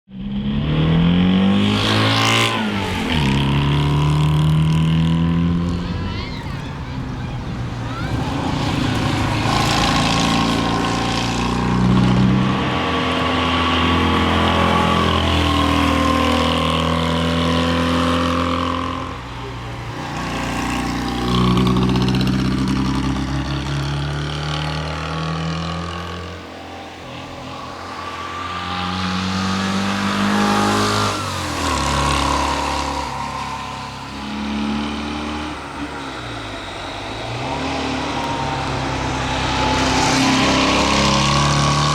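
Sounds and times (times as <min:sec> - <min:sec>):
small engine revving hard: 0:00.2 - 0:41.9.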